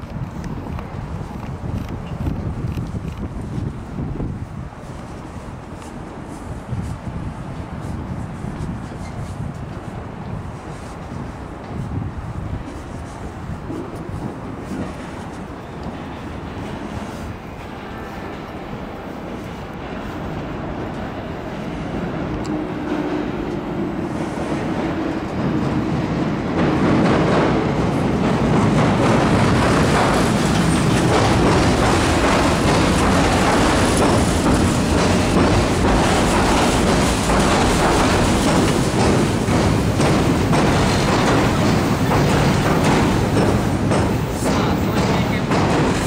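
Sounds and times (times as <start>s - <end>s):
train crossing steel bridge: 0.0s - 46.0s.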